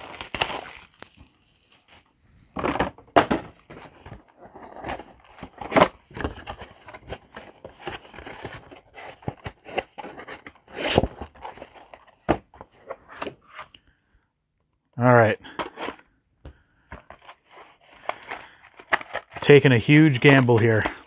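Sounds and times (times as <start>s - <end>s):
cardboard box rustling and tearing: 0.0s - 2.7s, 3.4s - 13.7s, 17.0s - 21.0s.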